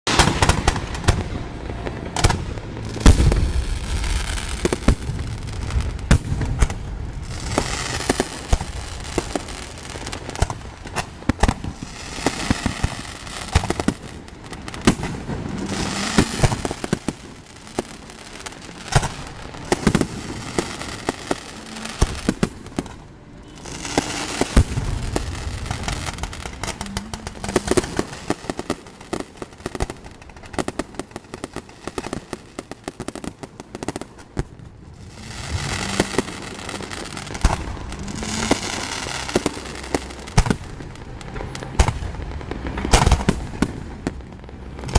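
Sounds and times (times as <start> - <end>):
fireworks crackling: 0.0 - 44.9
fireworks bangs and booms: 0.1 - 44.9.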